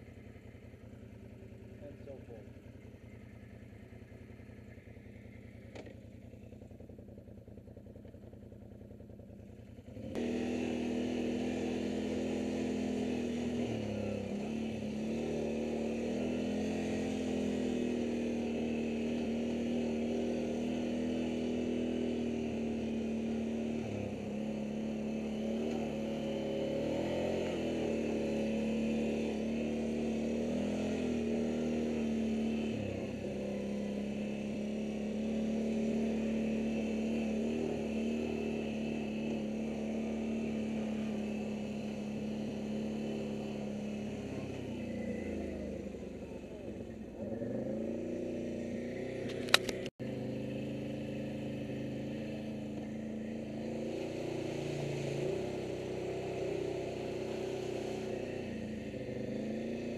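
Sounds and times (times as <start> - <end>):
quad bike engine: 0.0 - 59.9.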